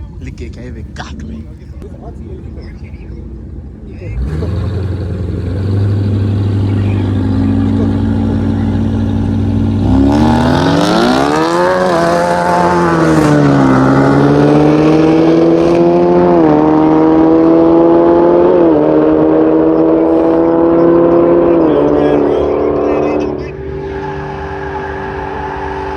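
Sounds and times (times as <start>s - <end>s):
car engine accelerating through gears: 4.0s - 25.9s.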